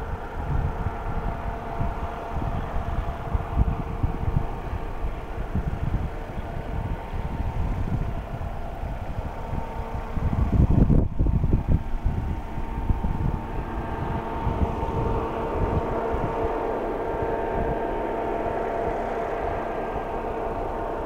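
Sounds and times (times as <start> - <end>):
steady mechanical hum: 0.0 - 21.0
wind buffeting microphone: 0.0 - 21.0.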